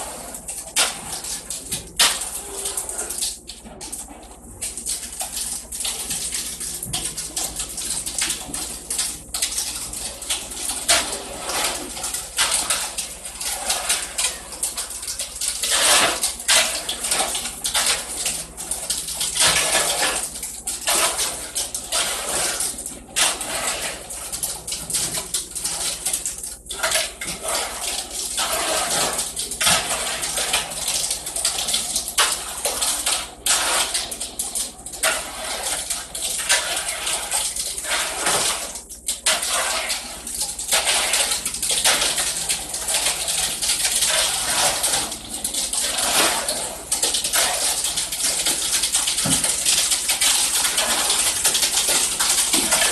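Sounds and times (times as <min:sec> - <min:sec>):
wet concrete scraping and slopping: 0:00.0 - 0:52.9.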